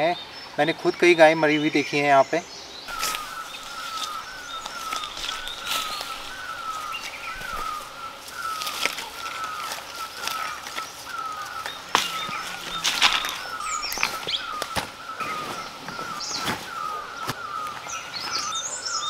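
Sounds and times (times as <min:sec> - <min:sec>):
bird calling: 0:00.0 - 0:19.0
rustles and clicks: 0:02.9 - 0:18.4.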